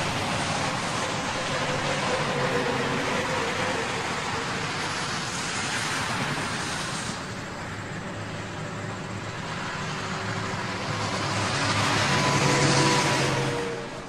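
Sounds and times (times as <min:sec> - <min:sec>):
freeway traffic rumble and hiss: 0:00.0 - 0:14.0.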